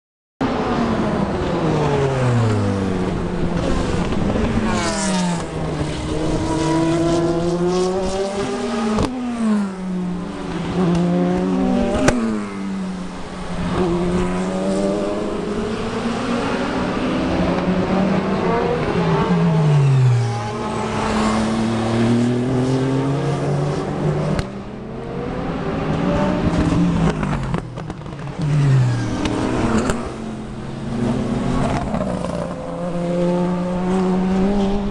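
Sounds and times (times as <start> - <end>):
race car engines downshifting: 0.4 - 34.9.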